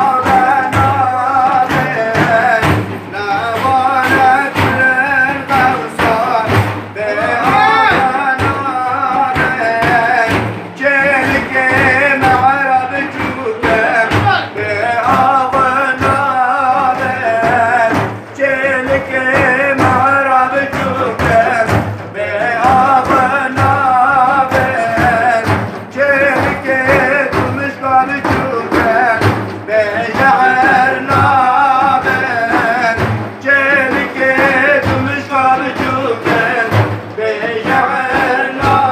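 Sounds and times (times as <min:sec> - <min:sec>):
man singing devotional hymn: 0:00.0 - 0:38.9
steady drum beat: 0:00.0 - 0:38.9.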